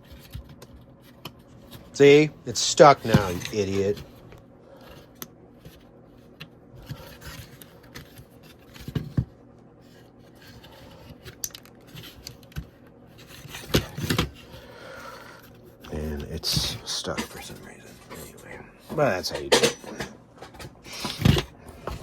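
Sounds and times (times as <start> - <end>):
plastic parts clicking and scraping: 0.0 - 9.3, 9.9 - 22.0.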